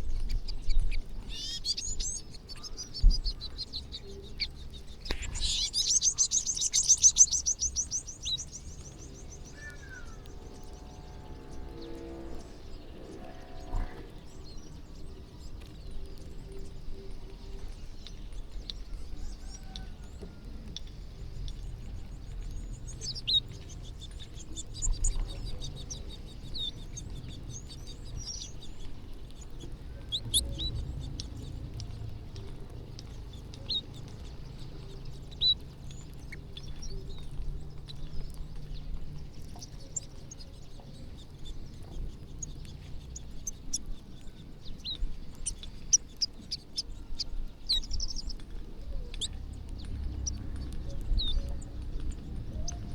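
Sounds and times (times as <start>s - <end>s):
low steady rumble: 0.0s - 52.9s
small birds chirping: 0.0s - 52.9s.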